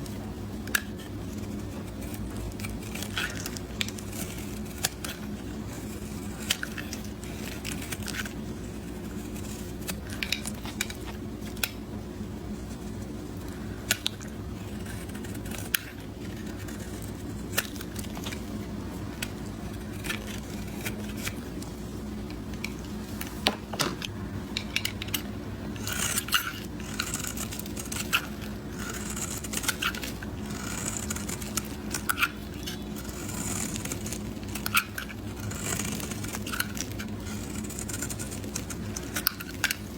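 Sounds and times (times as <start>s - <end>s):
knife cutting soap: 0.0s - 11.8s, 12.6s - 39.9s
steady low hum: 0.0s - 39.9s.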